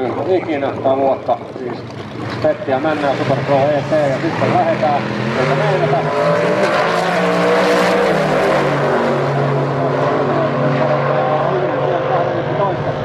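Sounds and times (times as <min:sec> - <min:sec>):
drag racing cars accelerating: 0:00.0 - 0:13.0.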